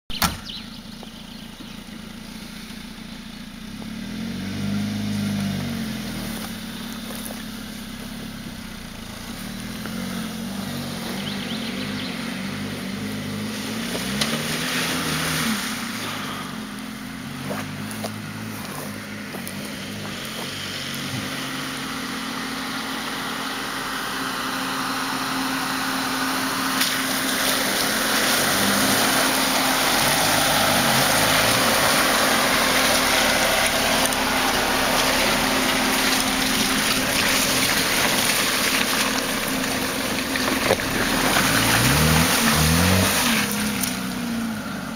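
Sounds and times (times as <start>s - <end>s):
car engine revving: 0.4s - 44.9s.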